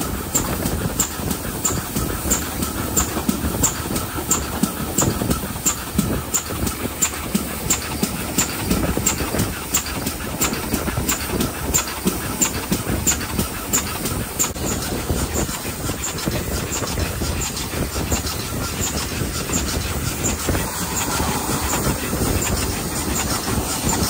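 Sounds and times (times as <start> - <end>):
steam locomotive exhaust beating: 0.0 - 24.0
wheels running on rails: 0.0 - 24.0.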